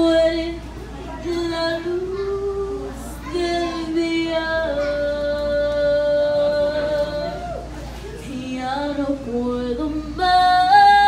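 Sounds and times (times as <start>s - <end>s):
girl singing a slow ballad: 0.0s - 11.0s.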